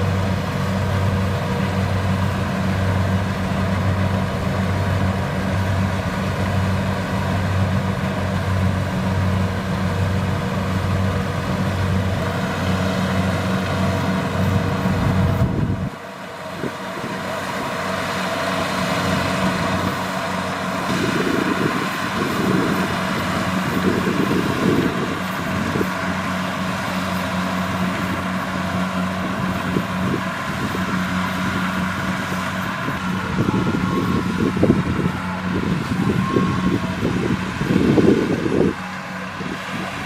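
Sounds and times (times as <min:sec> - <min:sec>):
diesel engine drone: 0:00.0 - 0:40.0
machinery whining tones: 0:00.0 - 0:40.0.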